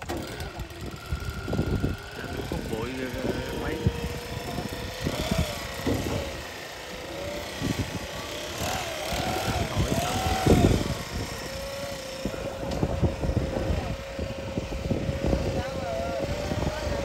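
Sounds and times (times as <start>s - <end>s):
petrol blower running: 0.0s - 17.0s.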